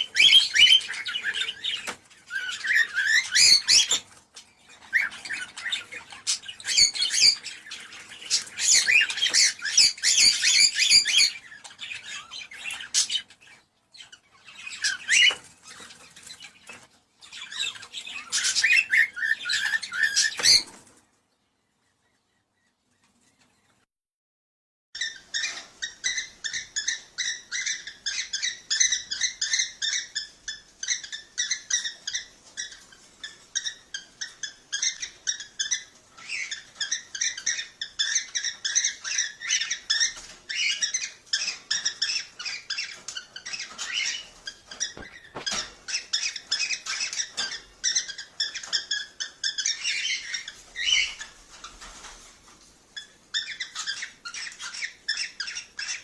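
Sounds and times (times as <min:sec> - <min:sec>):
cockatiels chirping: 0:00.0 - 0:21.0, 0:25.0 - 0:56.0.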